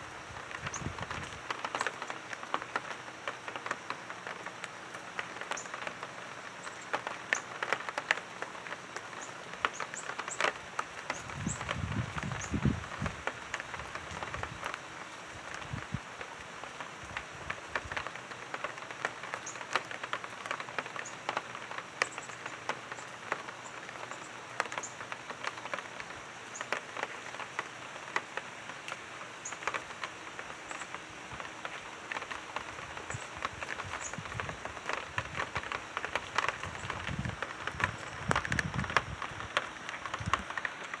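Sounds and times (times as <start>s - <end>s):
rain falling: 0.0s - 41.0s
raindrops ticking: 0.0s - 41.0s.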